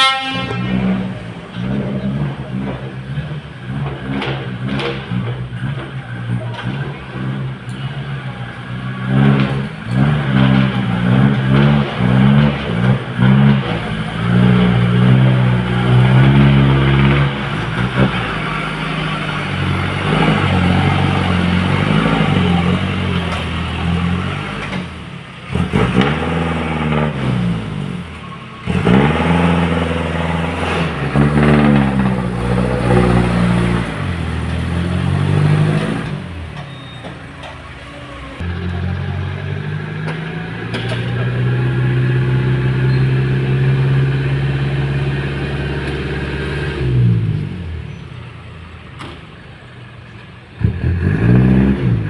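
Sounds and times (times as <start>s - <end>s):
truck engine revving under load: 0.0s - 52.0s.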